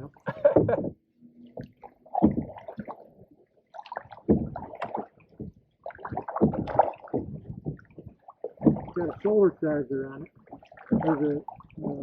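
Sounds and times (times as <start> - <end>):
canoe paddle splashing water: 1.6 - 12.0.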